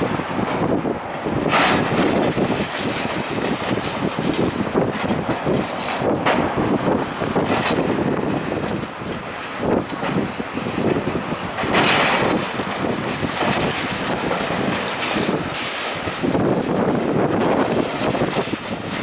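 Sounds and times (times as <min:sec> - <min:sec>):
rubble and masonry crashing down: 0:00.0 - 0:19.0
wind buffeting microphone: 0:00.0 - 0:19.0.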